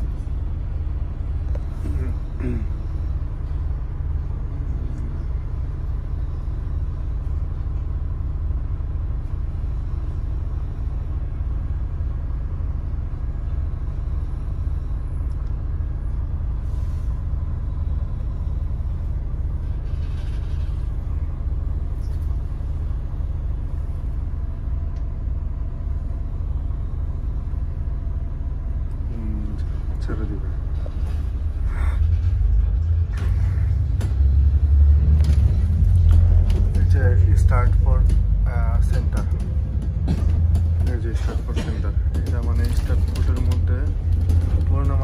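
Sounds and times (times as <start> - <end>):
bus engine rumbling: 0.0 - 45.0.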